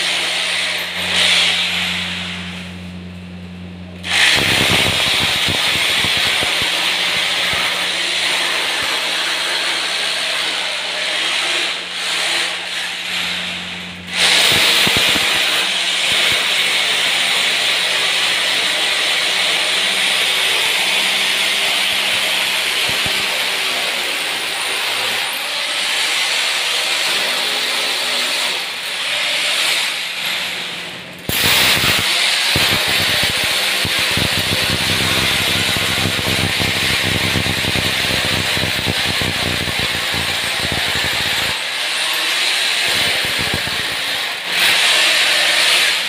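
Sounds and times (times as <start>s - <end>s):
electric drill boring into floor: 0.0s - 2.6s, 4.0s - 46.0s.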